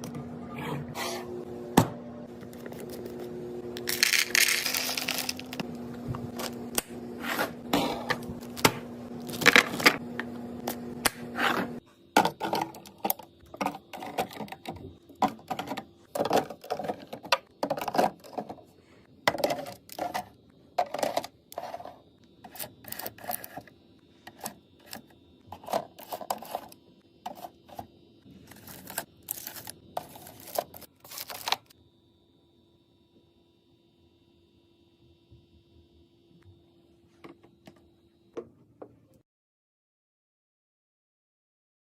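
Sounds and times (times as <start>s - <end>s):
steady hum: 0.0s - 38.4s.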